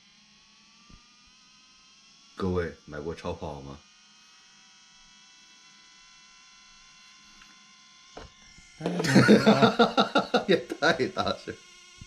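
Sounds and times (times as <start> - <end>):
small fan high-pitched buzz: 0.0 - 12.0.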